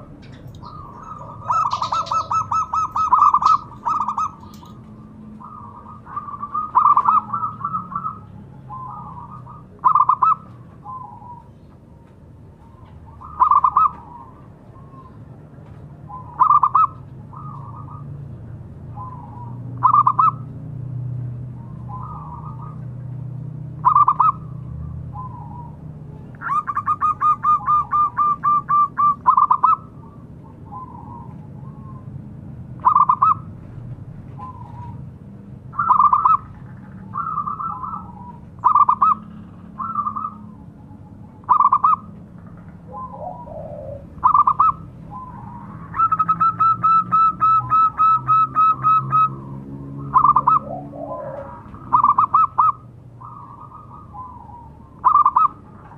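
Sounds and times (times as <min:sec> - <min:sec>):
dove cooing: 0:00.0 - 0:11.6, 0:12.7 - 0:15.2, 0:16.1 - 0:18.2, 0:19.0 - 0:20.4, 0:23.8 - 0:25.8, 0:26.4 - 0:32.1, 0:32.8 - 0:33.6, 0:35.7 - 0:42.2, 0:42.8 - 0:55.9.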